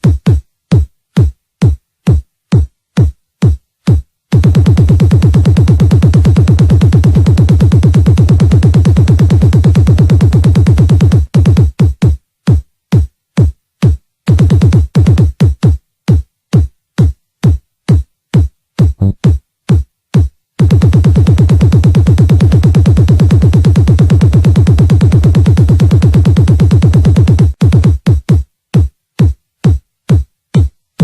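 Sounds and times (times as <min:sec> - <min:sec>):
electronic dance music: 0:00.0 - 0:13.1, 0:14.3 - 0:16.2, 0:18.8 - 0:19.4, 0:20.6 - 0:30.7
drum machine kick beat: 0:00.0 - 0:31.0.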